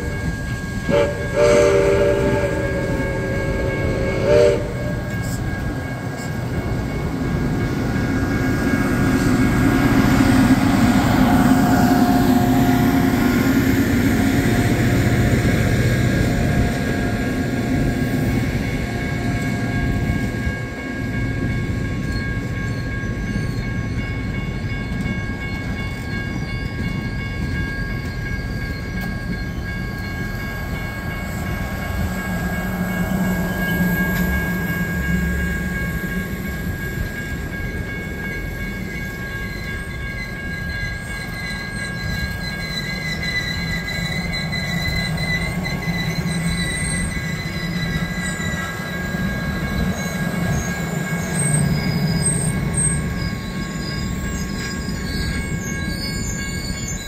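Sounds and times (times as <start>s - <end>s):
high-pitched ringing tones: 0.0s - 57.0s
train wheels rumbling on track: 0.0s - 57.0s.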